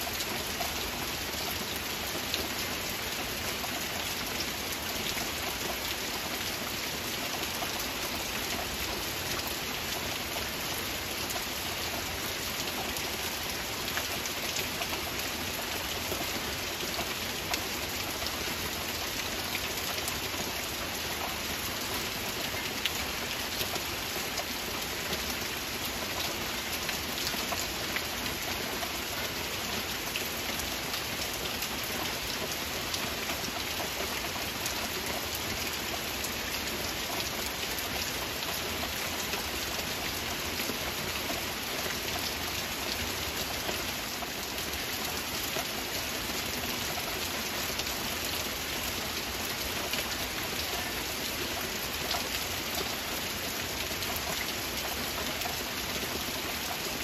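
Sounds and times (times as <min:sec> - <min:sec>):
steady gentle rain: 0:00.0 - 0:57.0.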